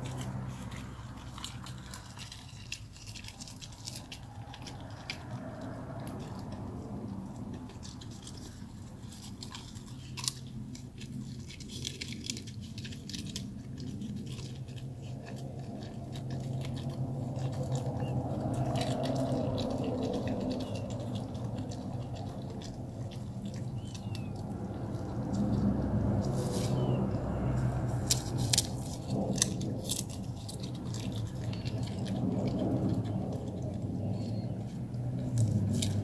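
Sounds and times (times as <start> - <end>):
dog crunching dried seaweed: 0.0 - 36.0
low steady hum: 0.0 - 36.0.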